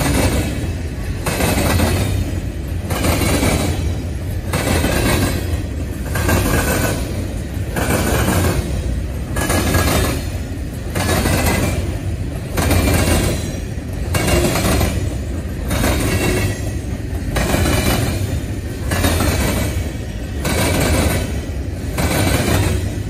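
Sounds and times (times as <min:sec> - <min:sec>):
freight train rumbling past: 0:00.0 - 0:23.0
steel wheels clattering on rails: 0:00.0 - 0:23.0.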